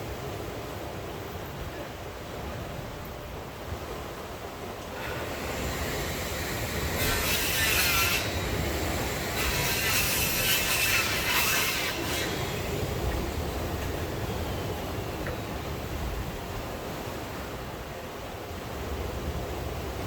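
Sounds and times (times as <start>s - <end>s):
rain: 0.0s - 20.0s
sea surf rushing: 0.0s - 20.0s.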